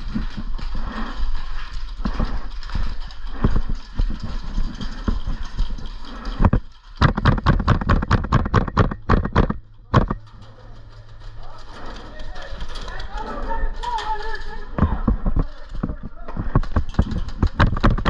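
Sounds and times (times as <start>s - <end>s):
hurried footsteps: 0.0s - 18.0s
rustling: 0.0s - 18.0s.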